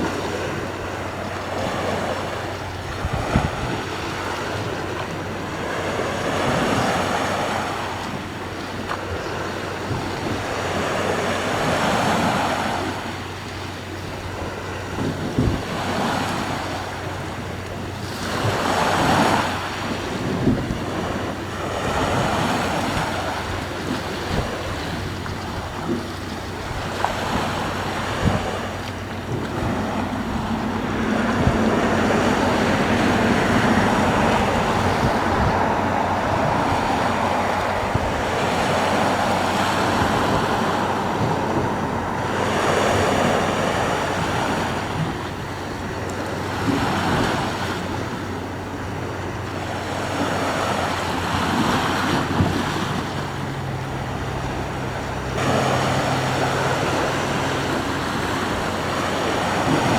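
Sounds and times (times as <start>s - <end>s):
sea waves washing: 0.0s - 59.9s
wind buffeting microphone: 0.0s - 59.9s.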